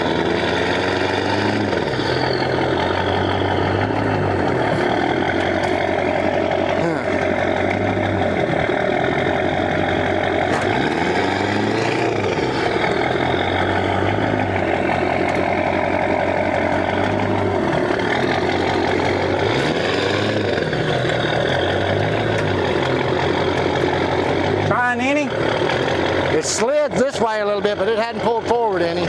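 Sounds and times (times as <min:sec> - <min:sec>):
vehicle engine straining under load: 0:00.0 - 0:29.0.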